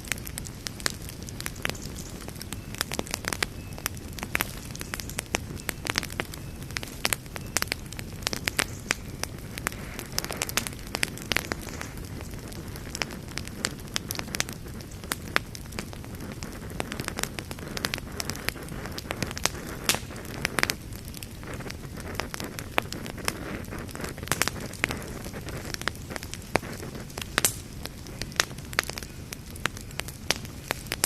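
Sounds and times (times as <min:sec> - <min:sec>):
campfire pops and snaps: 0:00.0 - 0:31.0
low hiss of burning wood: 0:00.0 - 0:31.0.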